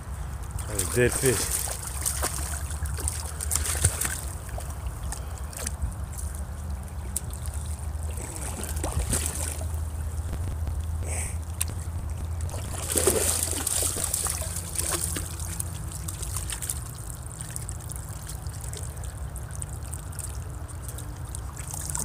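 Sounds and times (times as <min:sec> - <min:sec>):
steady low rumble: 0:00.0 - 0:22.0
dog splashing in water: 0:00.6 - 0:10.2, 0:12.4 - 0:22.0.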